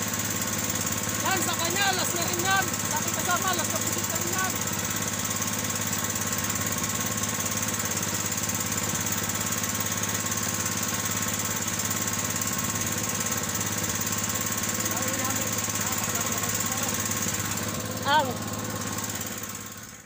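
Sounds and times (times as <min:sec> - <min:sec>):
boat engine chugging: 0:00.0 - 0:20.0.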